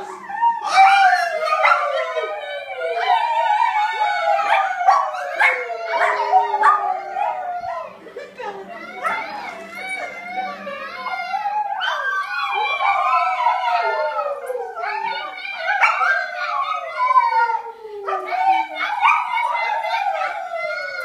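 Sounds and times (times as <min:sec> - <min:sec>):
dog howling: 0:00.0 - 0:21.0
people howling: 0:00.0 - 0:21.0.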